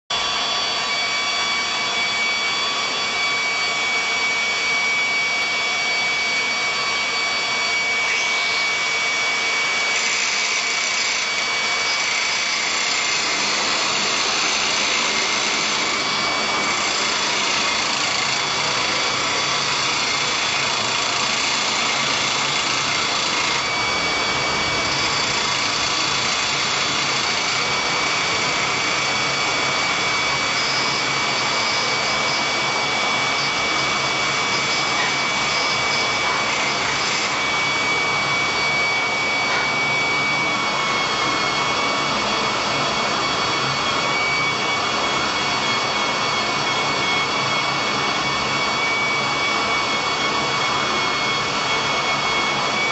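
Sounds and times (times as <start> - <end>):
angle grinder grinding metal: 0.2 - 52.9.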